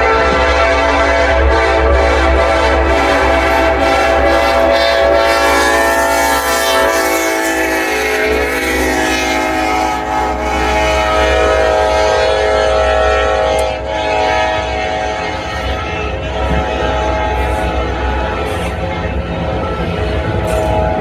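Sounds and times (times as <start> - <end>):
locomotive air horn: 0.0 - 21.0
passing train rumble: 0.0 - 21.0.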